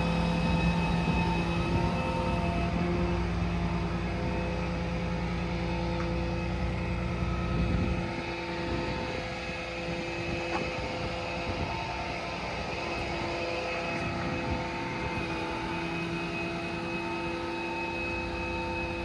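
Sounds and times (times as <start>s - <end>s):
diesel engine rumble: 0.0s - 19.0s
hydraulic crane whine: 0.0s - 19.0s.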